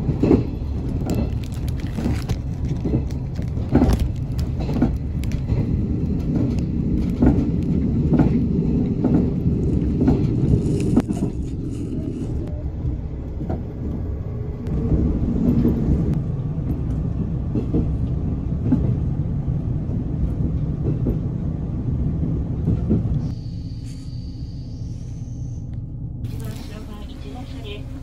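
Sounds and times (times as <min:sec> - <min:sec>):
train cabin rumble: 0:00.0 - 0:28.0.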